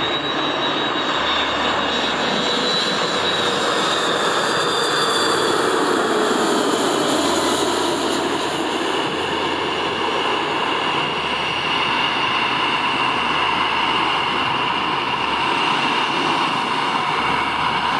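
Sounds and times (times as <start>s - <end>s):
jet airliner roaring past: 0.0s - 17.9s.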